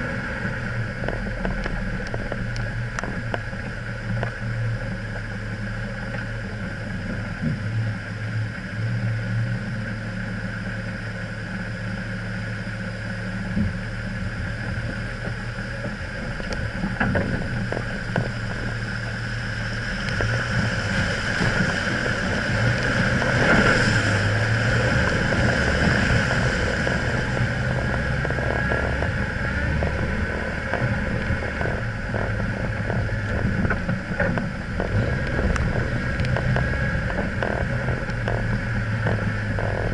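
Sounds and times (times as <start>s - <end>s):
vehicle engine running: 0.0s - 39.9s
water rushing and splashing: 0.0s - 39.9s.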